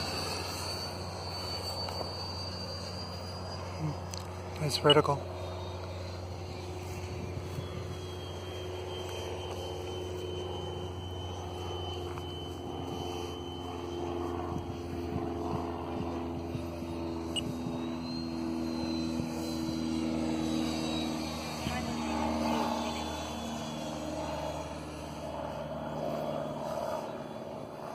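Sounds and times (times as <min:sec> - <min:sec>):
model jet engine whine: 0:00.0 - 0:27.9.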